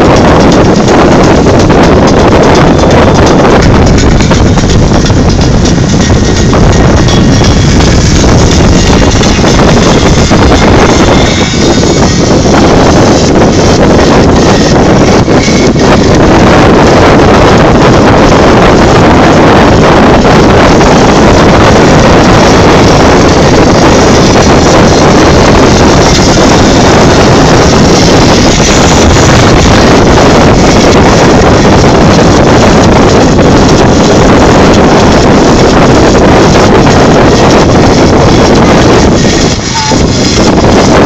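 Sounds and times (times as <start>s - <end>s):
motorboat engine drone: 0.0s - 41.0s
wind on microphone: 0.0s - 41.0s.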